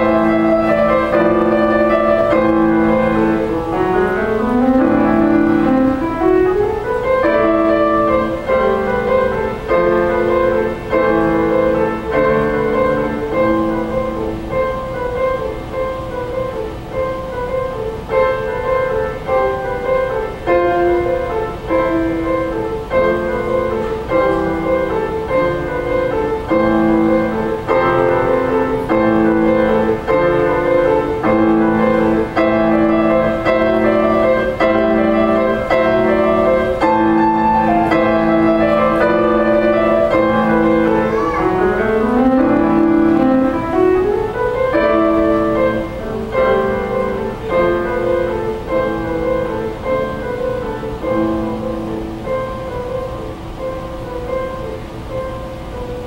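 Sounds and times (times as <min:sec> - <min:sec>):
slow grand piano piece: 0:00.0 - 0:56.0.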